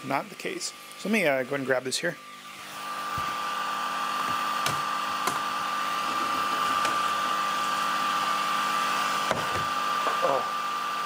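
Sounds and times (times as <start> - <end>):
electric blower rushing air: 0.0 - 11.0.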